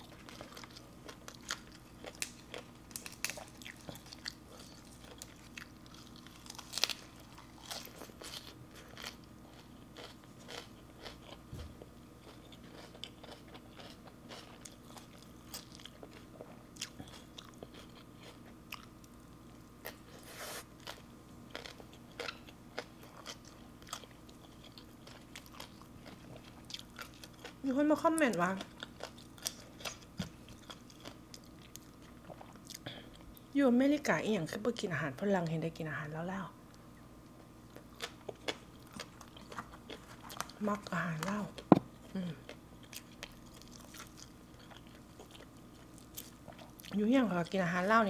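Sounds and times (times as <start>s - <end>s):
person chewing crunchy salad: 0.0s - 27.7s, 28.6s - 33.3s, 37.6s - 47.0s.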